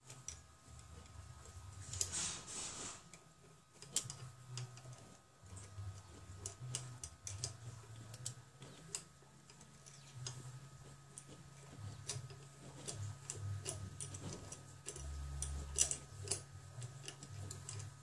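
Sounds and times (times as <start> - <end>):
light metal clicks and ticks: 3.1 - 18.0.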